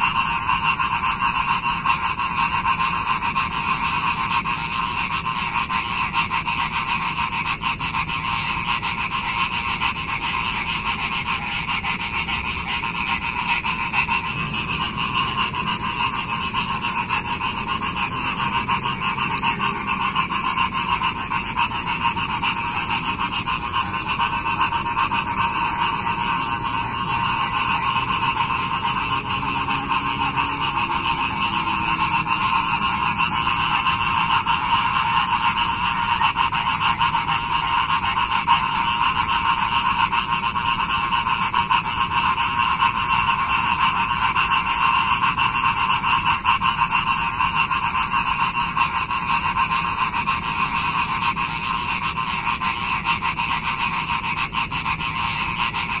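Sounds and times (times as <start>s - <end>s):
chorus of frogs calling: 0.0s - 56.0s.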